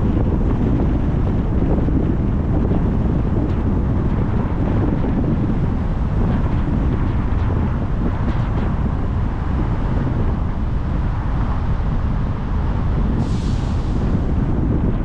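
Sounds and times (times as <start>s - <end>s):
car engine and tyre noise: 0.0s - 15.0s
wind rumbling on microphone: 0.0s - 15.0s.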